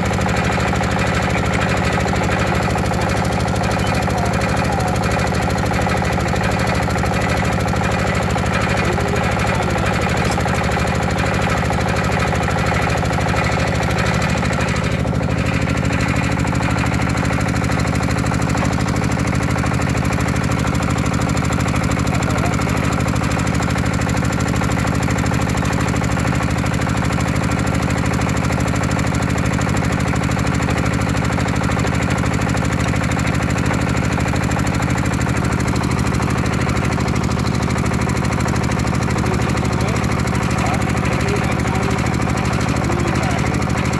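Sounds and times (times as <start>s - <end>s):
small engine running: 0.0s - 43.9s.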